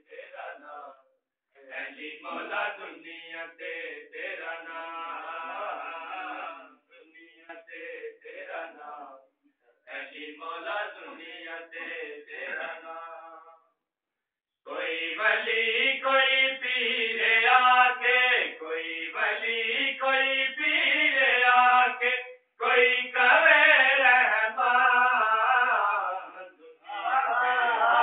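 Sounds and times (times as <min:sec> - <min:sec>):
man chanting unaccompanied: 0:00.0 - 0:01.0, 0:01.6 - 0:09.2, 0:09.9 - 0:13.5, 0:14.7 - 0:28.0.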